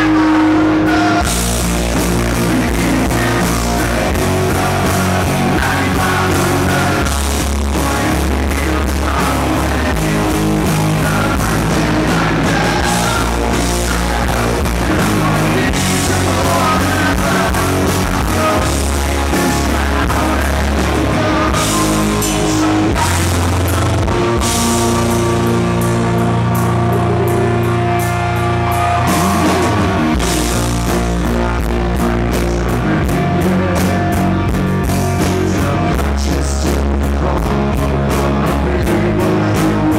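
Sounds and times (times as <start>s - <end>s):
live rock band playing: 0.0s - 39.9s
male lead vocal: 0.0s - 39.9s.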